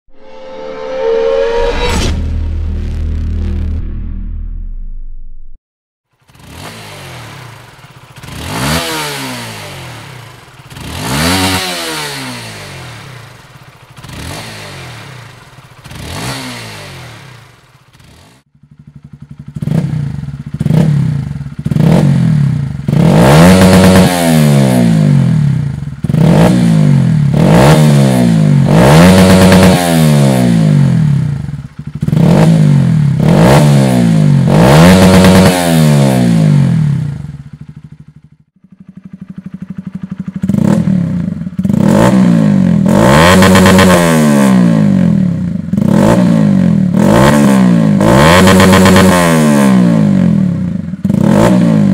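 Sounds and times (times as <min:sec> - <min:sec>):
motorcycle engine revving: 0:06.1 - 0:51.9.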